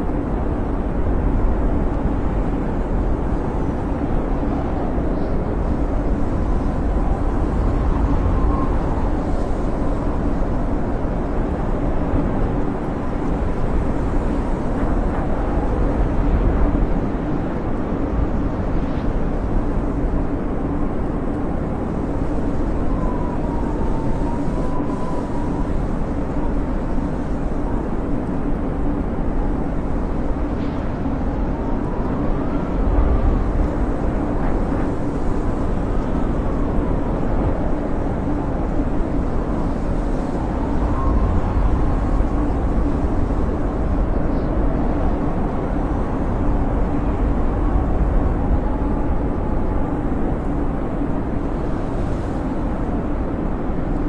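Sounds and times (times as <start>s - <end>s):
faint thin wind whistles: 0.0s - 54.0s
wind howling: 0.0s - 54.0s.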